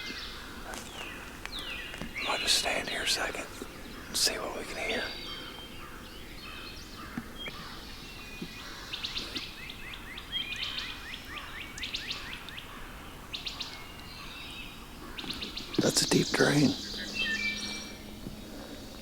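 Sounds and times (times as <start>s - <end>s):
small songbirds singing: 0.0s - 19.0s.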